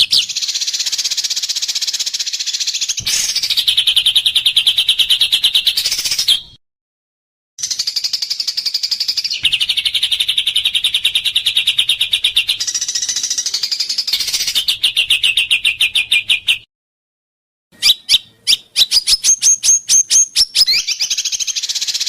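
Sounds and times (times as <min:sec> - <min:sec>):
songbird singing fast trills: 0:00.0 - 0:06.6, 0:07.6 - 0:16.7, 0:17.8 - 0:22.0.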